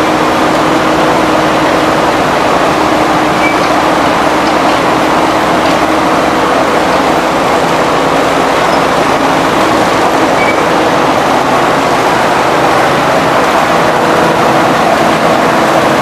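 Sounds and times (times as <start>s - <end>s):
crushing mill machinery running: 0.0s - 16.0s.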